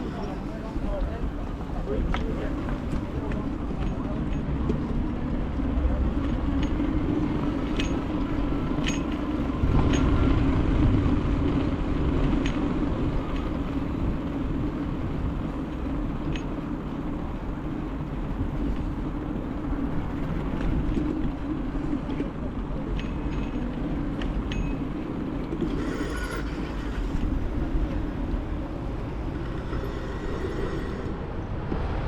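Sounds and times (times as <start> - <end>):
bicycle ride rumbling: 0.0 - 32.0.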